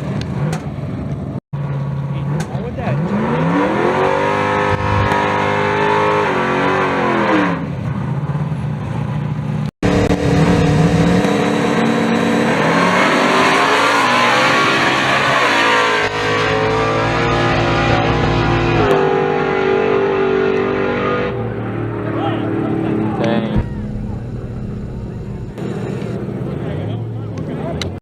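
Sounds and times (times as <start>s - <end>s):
drag race engines at full throttle: 0.0s - 28.0s.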